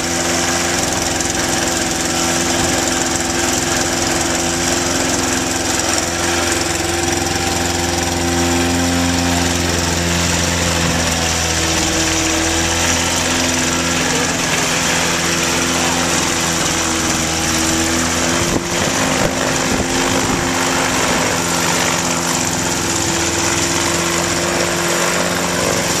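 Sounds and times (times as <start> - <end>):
light aircraft engine running: 0.0 - 26.0.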